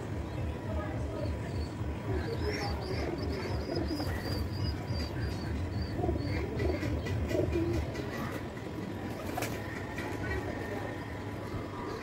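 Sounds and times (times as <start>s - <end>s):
pigeons cooing: 2.1s - 12.0s.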